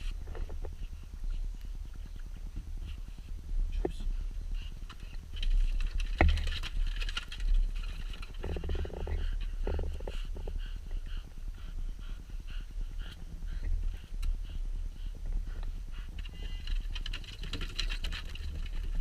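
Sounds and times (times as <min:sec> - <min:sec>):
rapid fluttering interference hum: 0:00.0 - 0:19.0.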